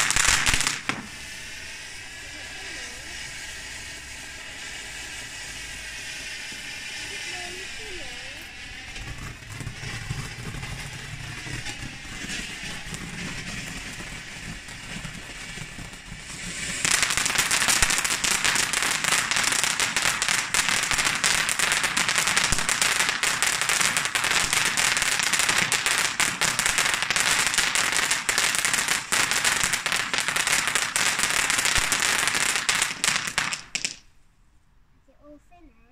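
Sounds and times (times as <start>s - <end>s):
firework hissing and crackling: 0.0s - 34.1s.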